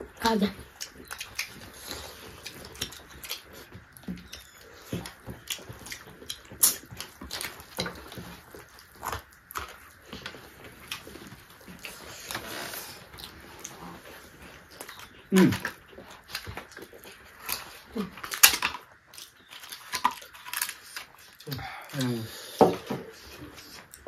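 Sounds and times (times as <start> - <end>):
people chewing and lip-smacking: 0.0 - 24.0.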